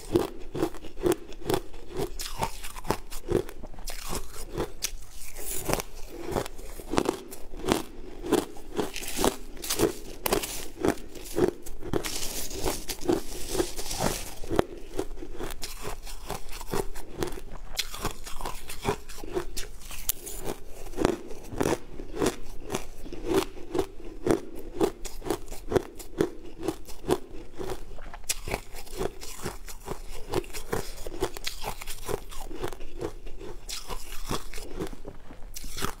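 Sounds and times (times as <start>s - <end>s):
chewing crunchy ice: 0.0s - 36.0s.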